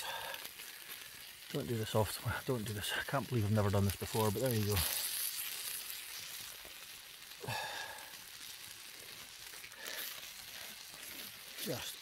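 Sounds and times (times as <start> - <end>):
steak sizzling over a fire: 0.0 - 12.0.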